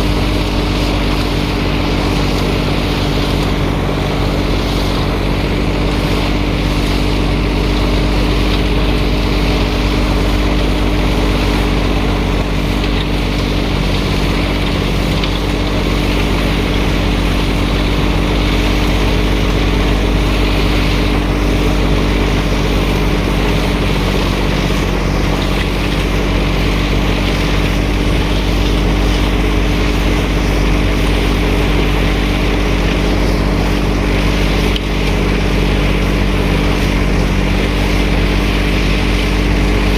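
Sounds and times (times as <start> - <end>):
machine motor running: 0.0 - 39.9.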